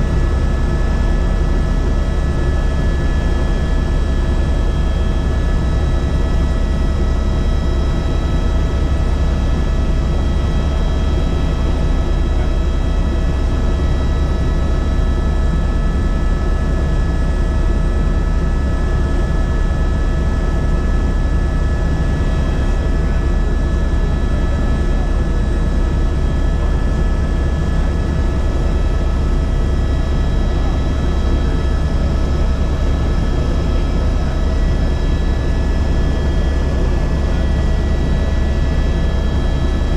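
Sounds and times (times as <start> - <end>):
helicopter rotor and engine drone: 0.0 - 39.9
high turbine whine: 0.0 - 39.9.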